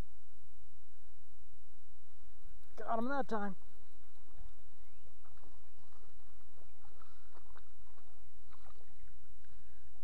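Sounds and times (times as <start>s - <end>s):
faint water splashing: 1.7s - 10.0s.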